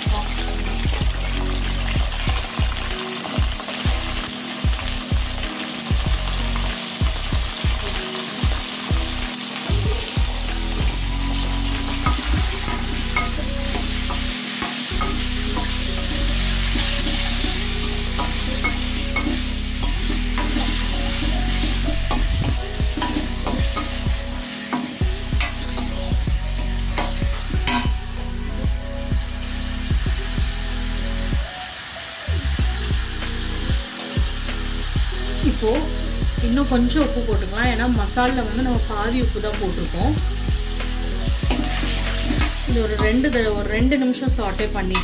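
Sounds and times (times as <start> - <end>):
chicken sizzling in hot oil: 0.0 - 45.0.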